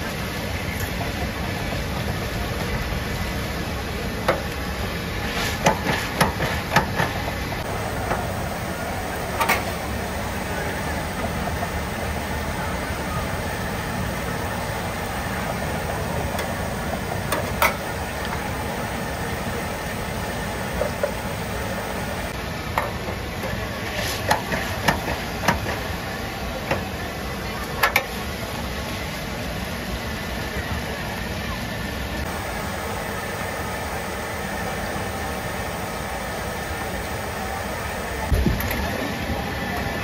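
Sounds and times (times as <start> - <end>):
busy food stall background: 0.0 - 40.0.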